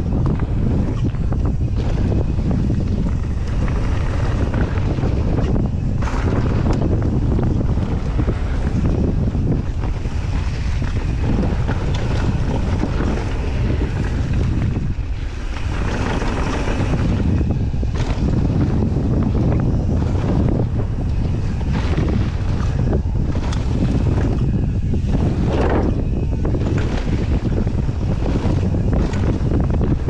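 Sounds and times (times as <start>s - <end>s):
bike rattles and clicks: 0.0s - 30.0s
tyres rolling on dirt: 0.0s - 30.0s
wind buffeting microphone: 0.0s - 30.0s.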